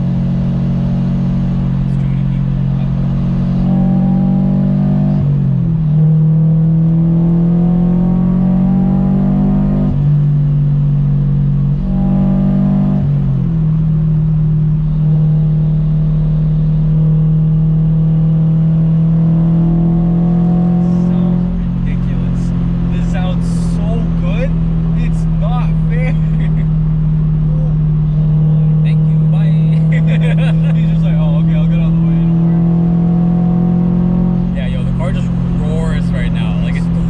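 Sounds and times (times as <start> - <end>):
car engine under load: 0.0 - 37.0.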